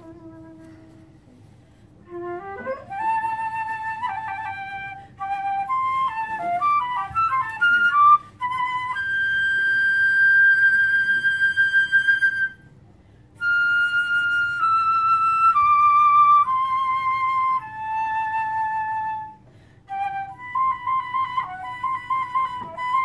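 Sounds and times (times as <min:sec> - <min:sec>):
solo recorder playing: 0:00.0 - 0:01.4, 0:02.0 - 0:12.8, 0:13.4 - 0:23.0.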